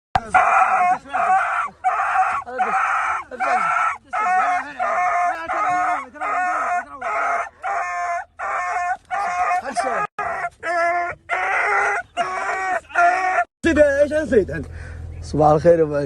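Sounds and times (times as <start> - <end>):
animal calling: 0.2 - 13.5.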